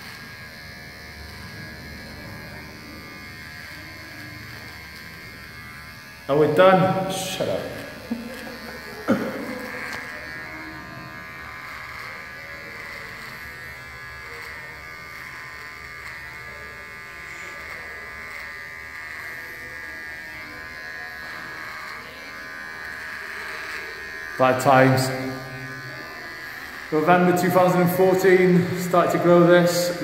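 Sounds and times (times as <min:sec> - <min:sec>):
electric hair clippers buzzing: 0:00.0 - 0:30.0.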